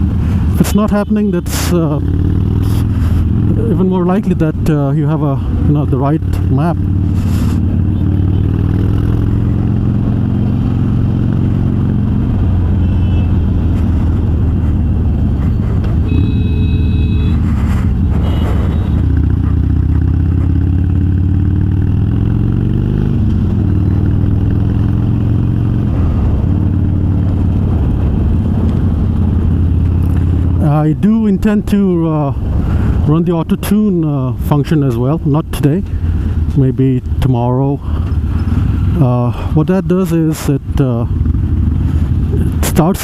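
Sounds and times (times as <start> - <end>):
motorcycle engine running: 0.0 - 34.5, 35.6 - 39.5, 40.5 - 43.0.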